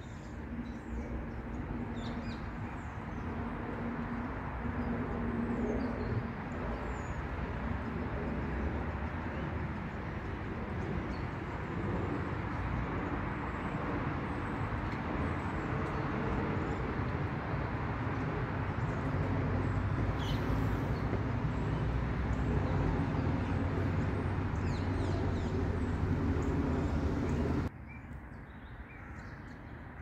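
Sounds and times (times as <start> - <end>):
distant city traffic rumble: 0.0 - 30.0.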